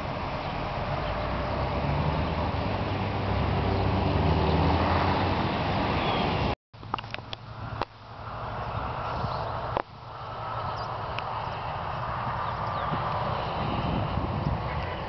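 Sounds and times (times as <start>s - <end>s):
traffic engine drone: 0.0s - 15.0s
tyre and road noise: 0.0s - 15.0s.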